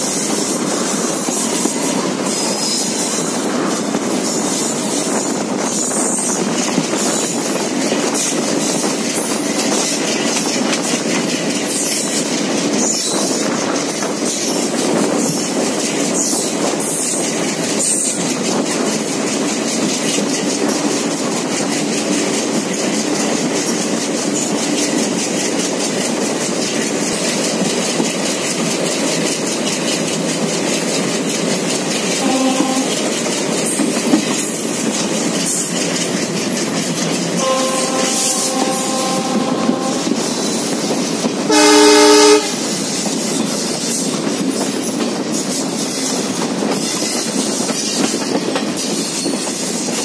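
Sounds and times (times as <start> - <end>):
train wheels clickety-clack: 0.0 - 50.0.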